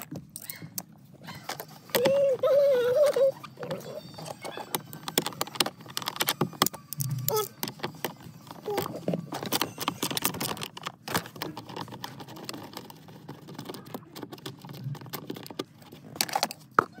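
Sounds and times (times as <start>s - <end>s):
tools and plastic parts knocking: 0.0s - 17.0s.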